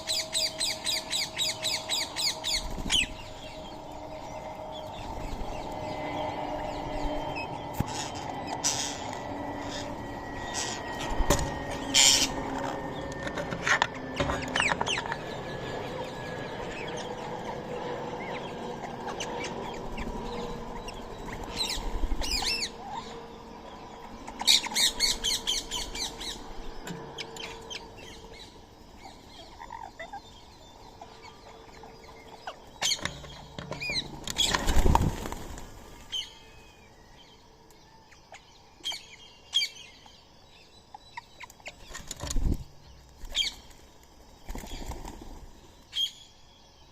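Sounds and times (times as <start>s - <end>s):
birds chirping and calling: 0.0s - 46.9s.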